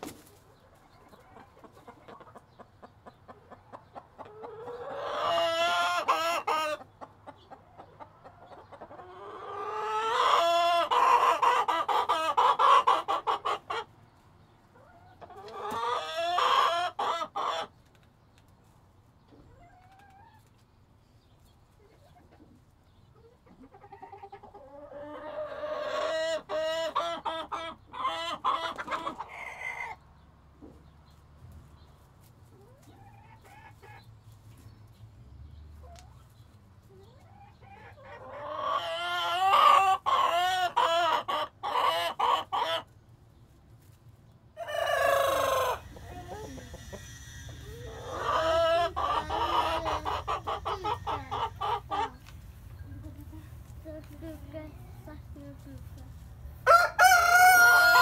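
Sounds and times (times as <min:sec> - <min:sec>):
chicken clucking and cackling: 0:00.0 - 0:58.0.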